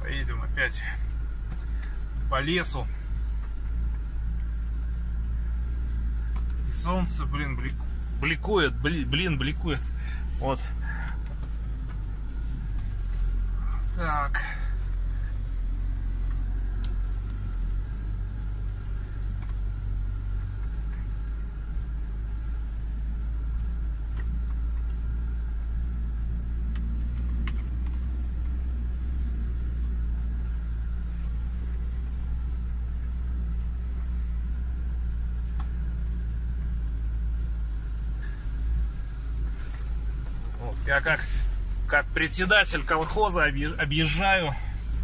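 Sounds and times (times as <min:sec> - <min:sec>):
engine drone and rumble: 0:00.0 - 0:45.0.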